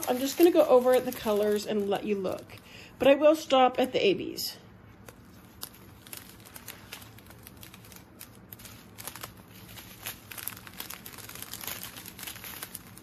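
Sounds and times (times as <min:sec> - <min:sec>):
plastic bags crinkling: 0:00.0 - 0:02.9, 0:05.0 - 0:13.0.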